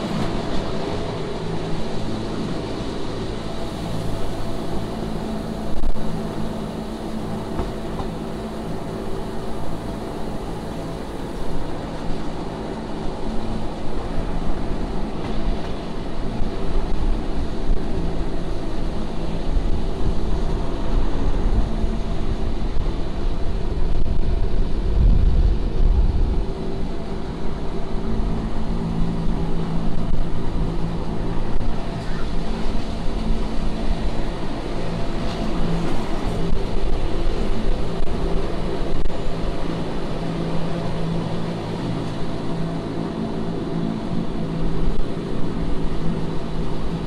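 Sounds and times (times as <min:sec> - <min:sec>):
low electric hum: 0:00.0 - 0:47.0
train wheels rumbling: 0:00.0 - 0:47.0.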